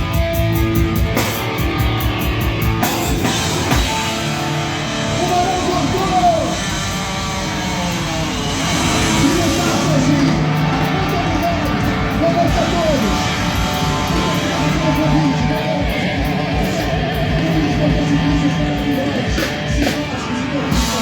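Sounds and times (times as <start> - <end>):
gliding guitar lead line: 0.0 - 21.0
live rock band: 0.0 - 21.0.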